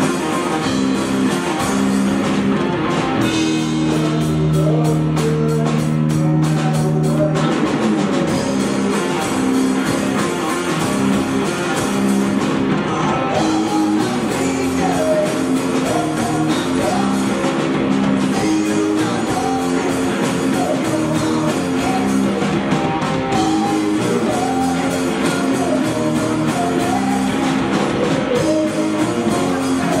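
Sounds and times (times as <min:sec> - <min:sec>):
drum kit beat: 0:00.0 - 0:30.0
electric guitar chords: 0:00.0 - 0:30.0.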